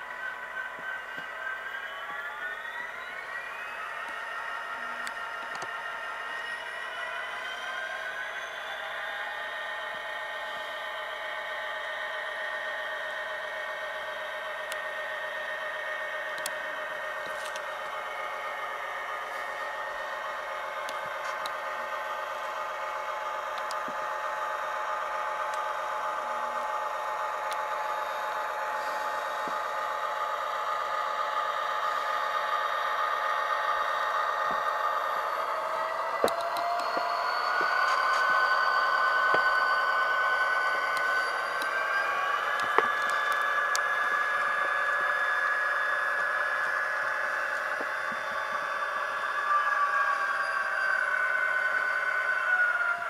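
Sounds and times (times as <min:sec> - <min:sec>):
model locomotive diesel engine sound: 0:00.0 - 0:53.0.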